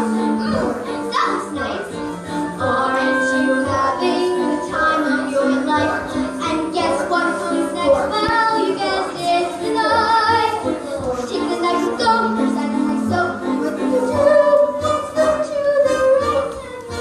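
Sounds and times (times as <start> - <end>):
instrumental accompaniment: 0.0 - 17.0
young voices singing: 0.0 - 17.0.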